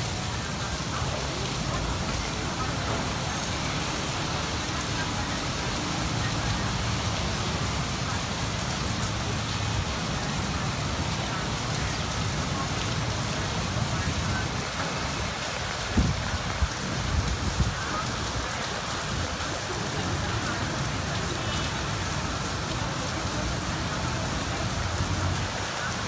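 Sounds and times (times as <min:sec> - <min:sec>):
rain on concrete rooftops: 0:00.0 - 0:26.0.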